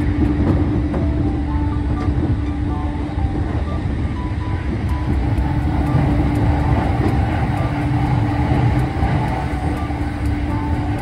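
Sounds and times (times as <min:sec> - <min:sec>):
electric train rumbling: 0:00.0 - 0:11.0
steady hum: 0:00.0 - 0:11.0.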